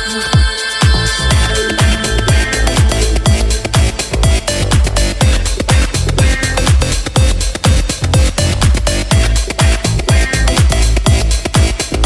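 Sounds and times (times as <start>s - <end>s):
electronic dance music: 0.0s - 12.0s
heavy kick drum beat: 0.0s - 12.0s.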